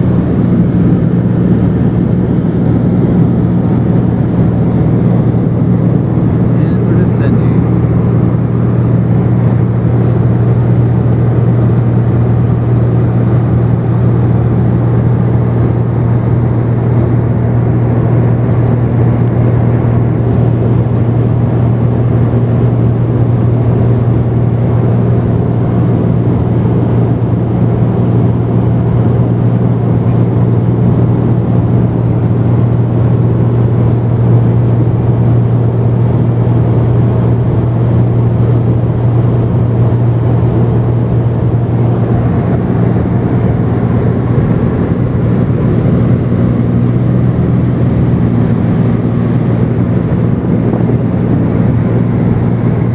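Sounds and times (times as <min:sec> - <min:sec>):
propeller plane engine droning: 0:00.0 - 0:52.9.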